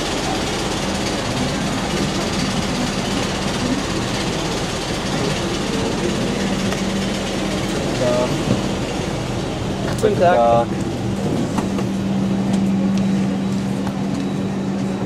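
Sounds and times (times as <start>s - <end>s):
aircraft cabin hum and air rush: 0.0s - 15.0s
low steady drone: 0.0s - 15.0s.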